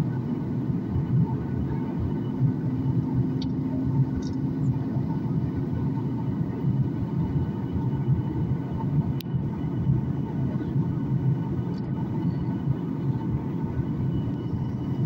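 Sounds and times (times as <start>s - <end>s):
faint steady hum: 0.0s - 15.0s
low rumble of airliner cabin: 0.0s - 15.0s.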